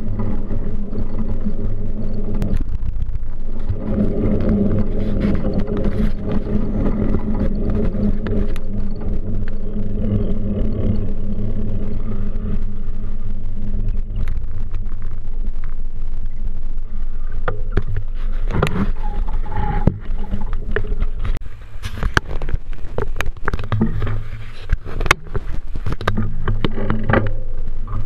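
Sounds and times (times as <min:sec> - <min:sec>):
bicycle road vibration: 0:00.0 - 0:28.0
wind rumble: 0:00.0 - 0:28.0.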